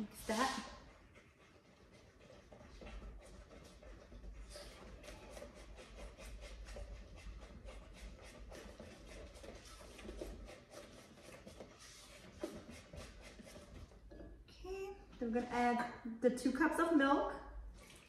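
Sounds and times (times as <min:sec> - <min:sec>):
wooden spoon stirring batter in bowl: 0:00.0 - 0:15.7.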